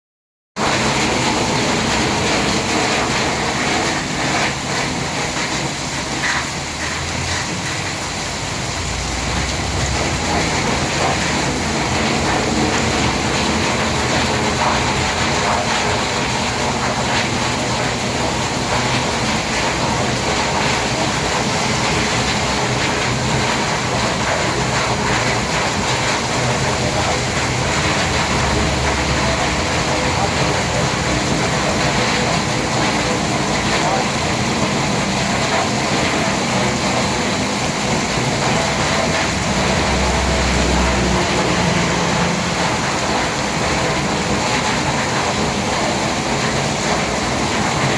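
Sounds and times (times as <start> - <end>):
heavy rain falling: 0.6 - 47.9.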